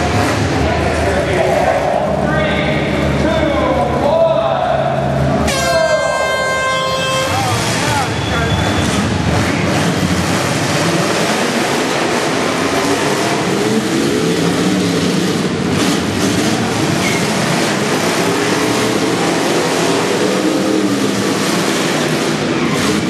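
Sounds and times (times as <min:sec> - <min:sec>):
car engines revving hard: 0:00.0 - 0:23.0.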